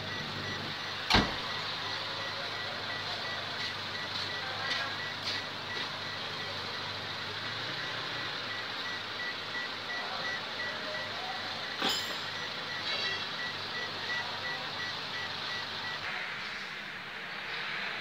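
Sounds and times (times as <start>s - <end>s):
dashboard warning buzzer beeping: 0.0s - 16.0s.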